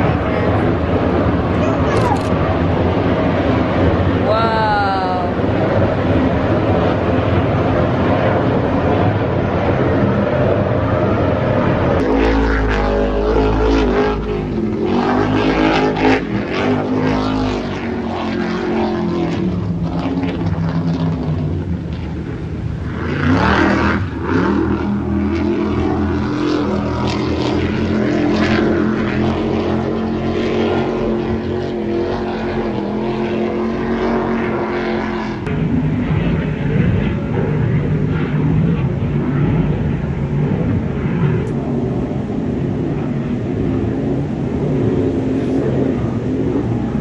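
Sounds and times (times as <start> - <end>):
boat passing by: 0.0 - 47.0
powerboat engines running: 0.0 - 47.0.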